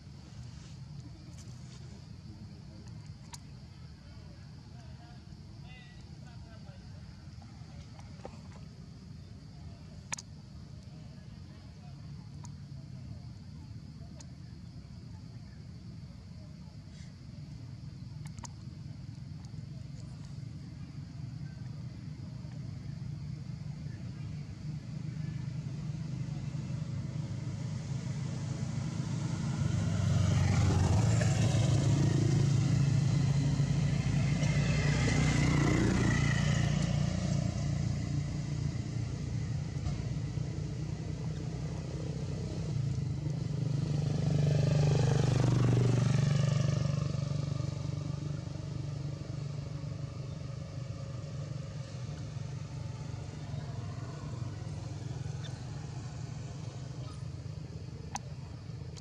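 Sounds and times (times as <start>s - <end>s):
vehicles passing by: 0.0s - 59.0s.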